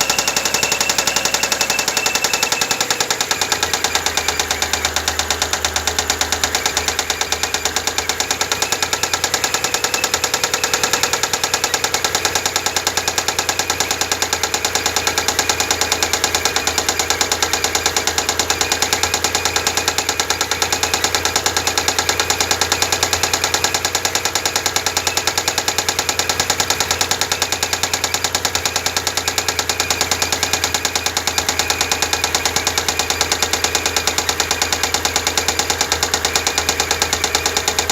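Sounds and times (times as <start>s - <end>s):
engine running with rapid knock: 0.0s - 37.9s.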